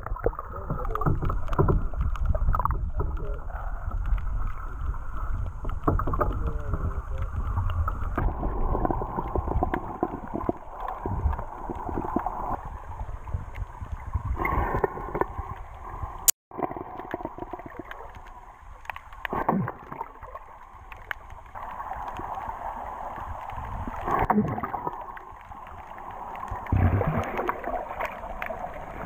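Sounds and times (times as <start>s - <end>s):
underwater sloshing and gurgling: 0.0s - 29.0s.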